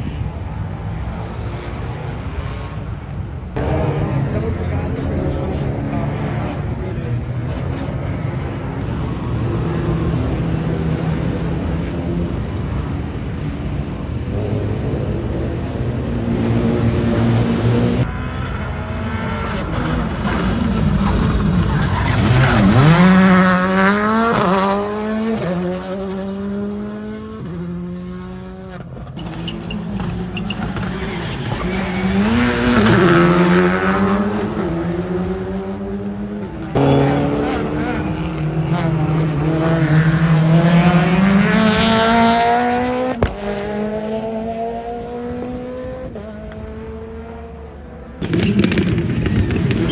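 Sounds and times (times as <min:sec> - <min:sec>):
rally car engines accelerating: 0:00.0 - 0:49.9.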